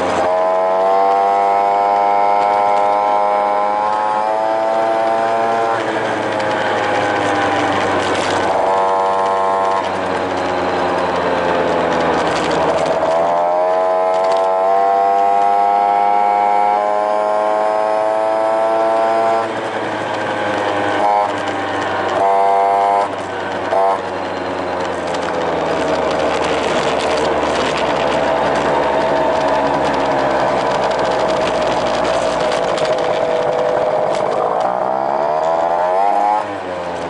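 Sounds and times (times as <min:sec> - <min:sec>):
scooter engine revving: 0:00.0 - 0:37.0.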